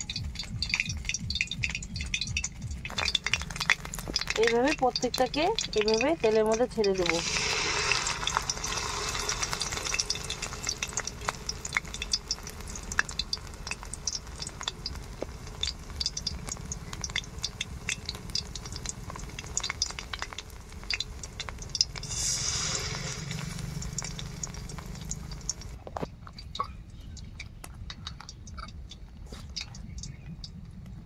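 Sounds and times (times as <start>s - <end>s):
fritters sizzling in hot oil: 0.0s - 31.0s
low steady rumble: 0.0s - 31.0s.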